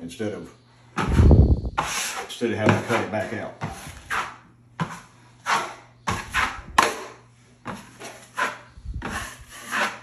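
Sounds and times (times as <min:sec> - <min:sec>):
drywall knife scraping compound: 0:01.0 - 0:10.0.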